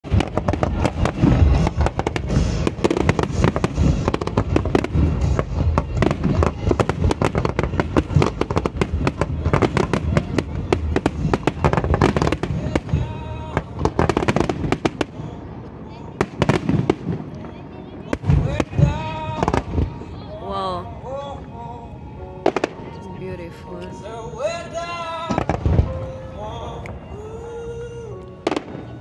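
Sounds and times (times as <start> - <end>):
fireworks bursting and crackling: 0.0 - 21.8, 22.4 - 23.8, 24.4 - 29.0.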